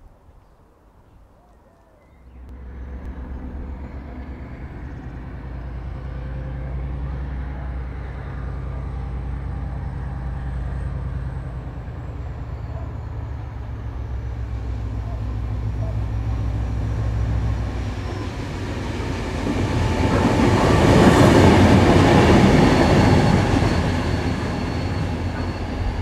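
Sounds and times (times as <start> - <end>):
diesel locomotive engine drone: 2.2 - 26.0.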